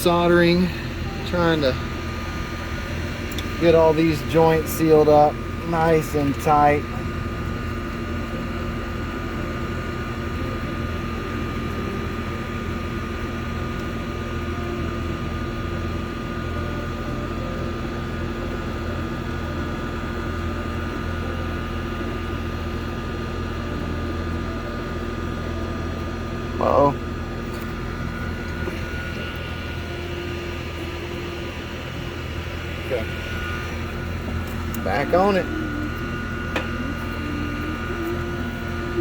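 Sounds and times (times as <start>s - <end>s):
mechanical drone with hum: 0.0s - 39.0s.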